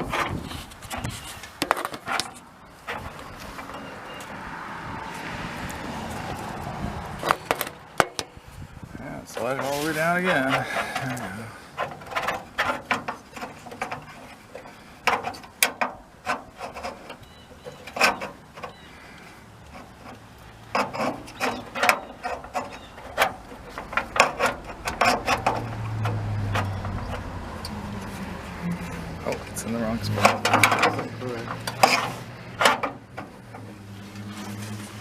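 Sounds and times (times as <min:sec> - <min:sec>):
metal door latch clicking and scraping: 0:00.0 - 0:04.4, 0:06.5 - 0:08.4, 0:09.3 - 0:18.9, 0:19.6 - 0:27.8, 0:29.0 - 0:35.0.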